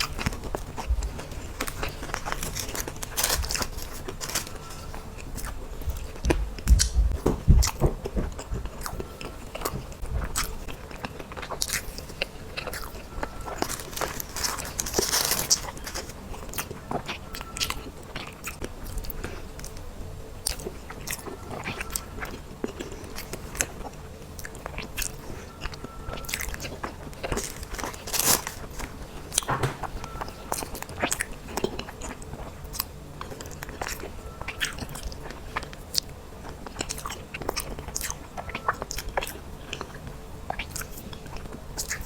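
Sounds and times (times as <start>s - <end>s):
person chewing cake: 0.0s - 42.0s.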